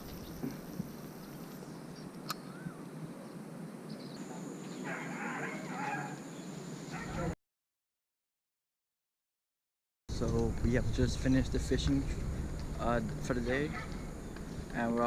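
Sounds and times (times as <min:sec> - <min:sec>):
outdoor background noise: 0:00.0 - 0:07.4, 0:10.1 - 0:15.0.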